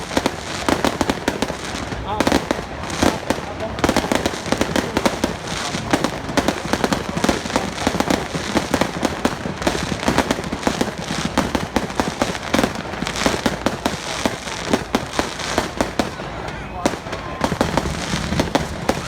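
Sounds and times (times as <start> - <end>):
firecrackers crackling: 0.0 - 19.0.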